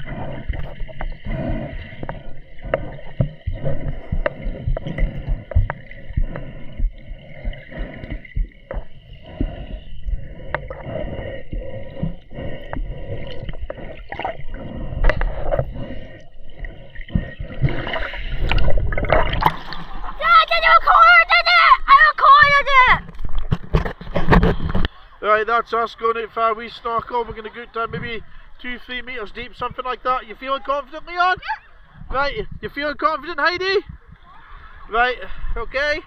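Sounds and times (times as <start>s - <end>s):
water sloshing and gurgling: 0.0s - 36.0s.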